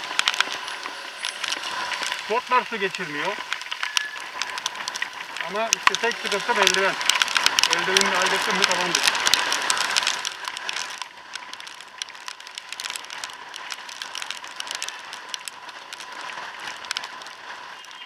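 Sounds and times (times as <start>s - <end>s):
rain and riding hiss: 0.0s - 18.0s
raindrops ticking on helmet: 0.0s - 18.0s.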